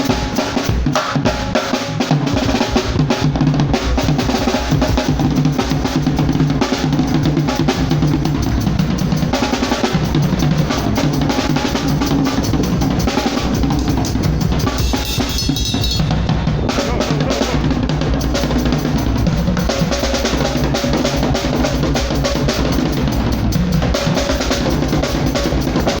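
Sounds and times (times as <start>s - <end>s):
drum kit playing: 0.0s - 26.0s.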